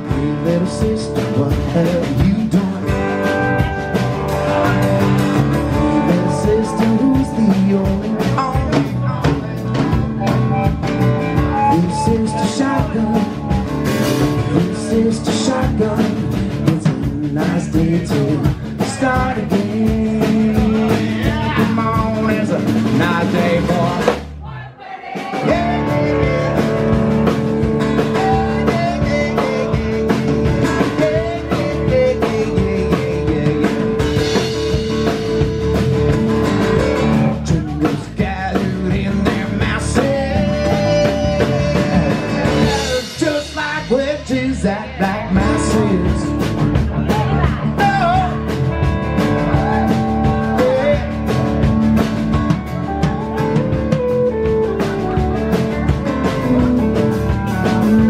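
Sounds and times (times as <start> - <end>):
man singing: 0.0 - 10.6, 11.4 - 24.2, 25.3 - 35.4, 37.0 - 48.6, 49.5 - 51.7, 56.3 - 58.0
rock band playing: 0.0 - 24.4, 25.0 - 58.0.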